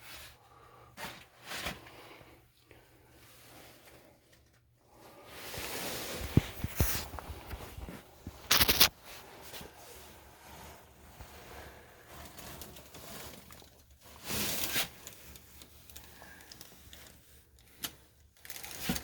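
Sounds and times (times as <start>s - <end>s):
rustling and scraping handling: 3.2s - 19.0s.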